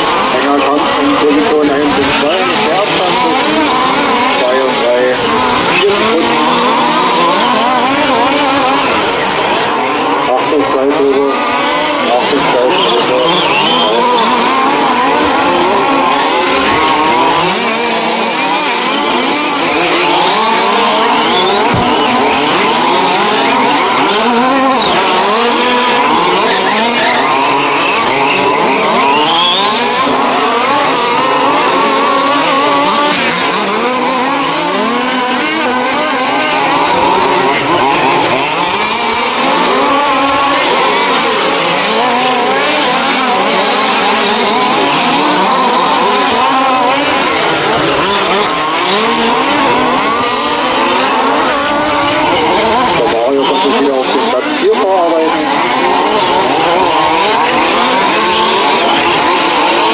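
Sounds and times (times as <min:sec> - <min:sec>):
small two-stroke engines revving: 0:00.0 - 0:59.9.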